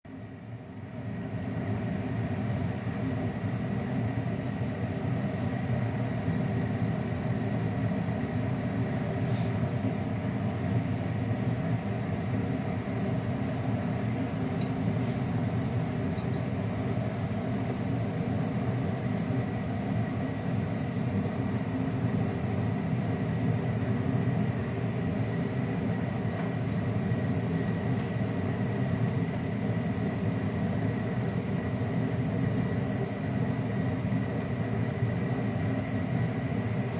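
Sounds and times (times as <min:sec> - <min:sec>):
faint high whine: 0:00.1 - 0:36.9
machine humming: 0:00.1 - 0:36.9.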